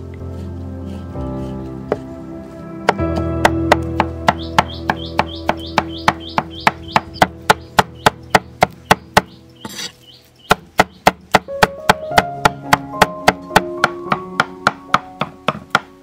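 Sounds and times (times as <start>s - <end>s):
cleaver chopping on wooden block: 2.9s - 16.0s.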